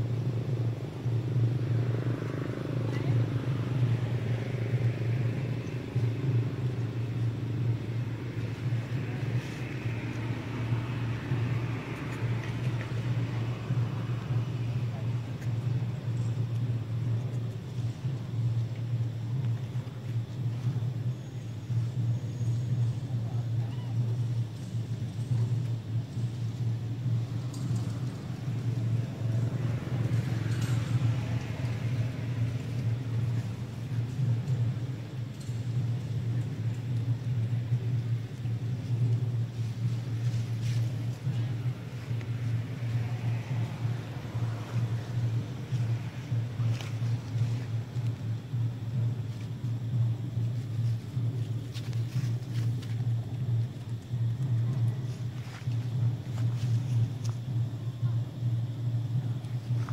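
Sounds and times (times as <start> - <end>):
steady low rumble: 0.0 - 59.9.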